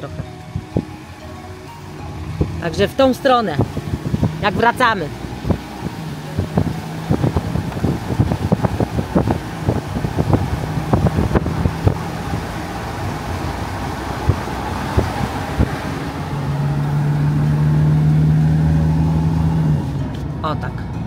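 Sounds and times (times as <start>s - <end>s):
road noise: 0.0s - 21.0s
van engine hum: 0.0s - 21.0s.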